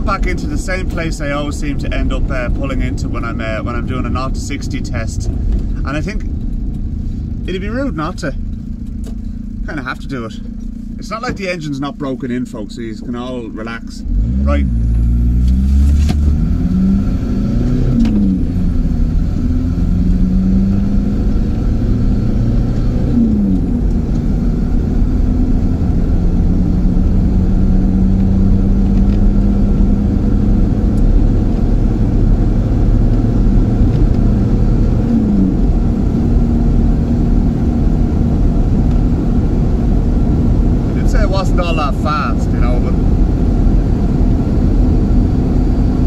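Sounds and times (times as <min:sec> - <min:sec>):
diesel engine accelerating: 0:00.0 - 0:46.0
low road rumble: 0:00.0 - 0:46.0.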